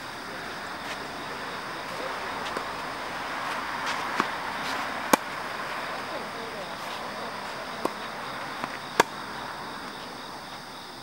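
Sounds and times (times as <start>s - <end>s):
background hiss: 0.0s - 11.0s
tennis ball struck by racket: 0.5s - 10.6s.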